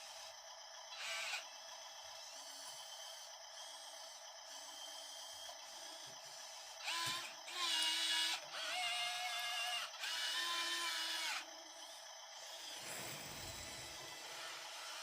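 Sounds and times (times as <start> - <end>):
small electric motors whirring: 0.9 - 15.0.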